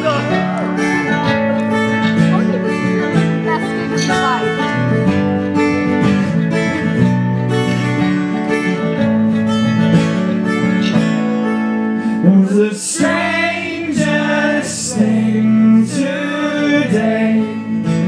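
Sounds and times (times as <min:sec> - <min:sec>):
acoustic guitar: 0:00.0 - 0:18.0.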